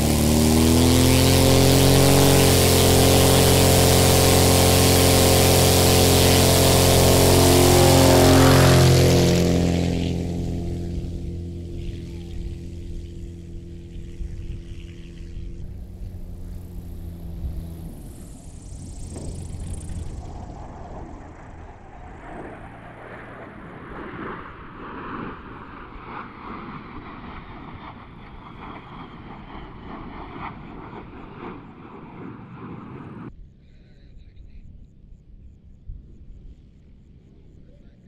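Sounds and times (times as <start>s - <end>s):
jet aircraft flying overhead: 0.0s - 33.3s
propeller plane: 0.0s - 38.0s.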